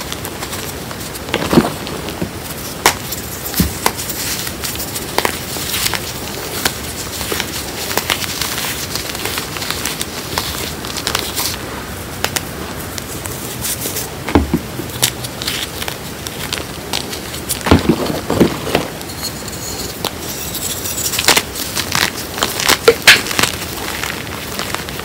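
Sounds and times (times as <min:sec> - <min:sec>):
hands crumbling chalk: 0:00.0 - 0:11.6, 0:12.2 - 0:25.0.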